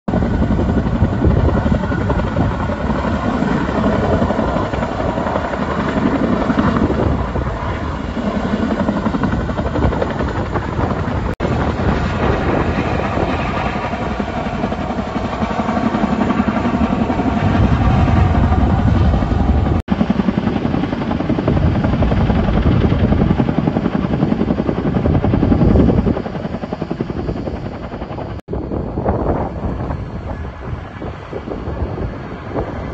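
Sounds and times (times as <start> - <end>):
helicopter rotor and engine: 0.1 - 32.9.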